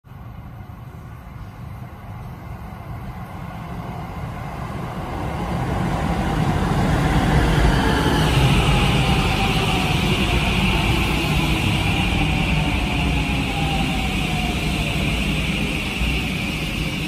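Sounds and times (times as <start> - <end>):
electric train rumble: 0.1 - 17.0.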